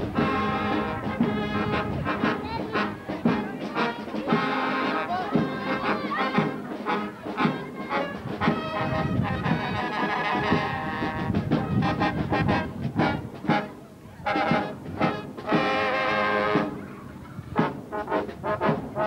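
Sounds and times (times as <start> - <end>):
marching brass band: 0.0 - 19.0.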